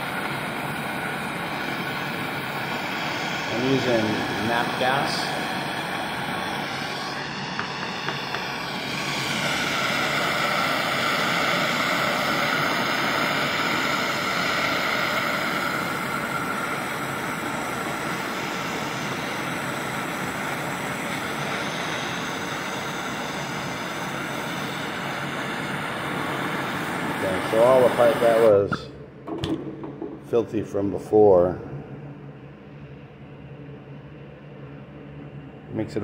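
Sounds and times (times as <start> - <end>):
gas torch hissing: 0.0 - 28.9.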